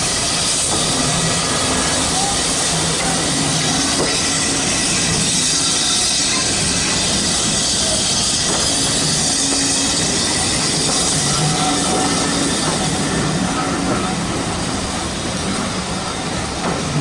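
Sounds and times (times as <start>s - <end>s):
train wheels rumbling on rail: 0.0s - 17.0s
wheel squeal: 0.1s - 14.8s.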